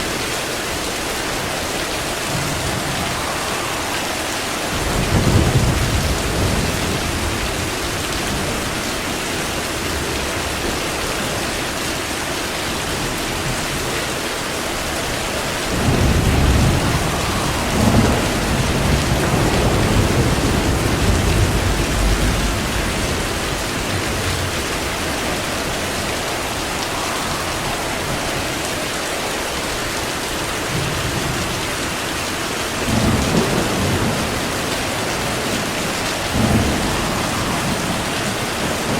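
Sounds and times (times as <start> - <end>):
heavy rain: 0.0 - 38.9
rolling thunder: 0.1 - 11.6, 12.6 - 38.9.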